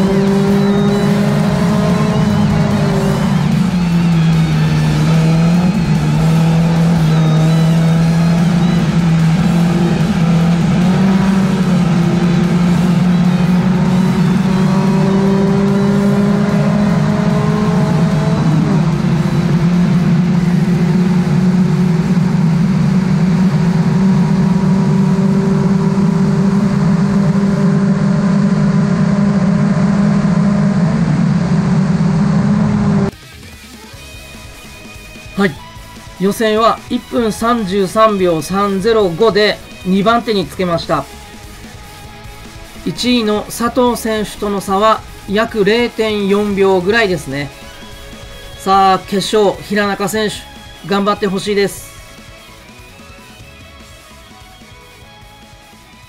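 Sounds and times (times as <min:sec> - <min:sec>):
race car engine pulling hard: 0:00.0 - 0:55.9.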